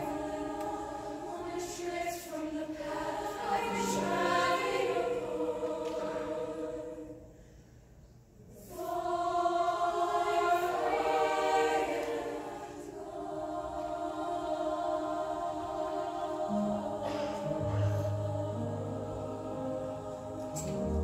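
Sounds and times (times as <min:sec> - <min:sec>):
choir singing in harmony: 0:00.0 - 0:07.6, 0:08.5 - 0:21.0.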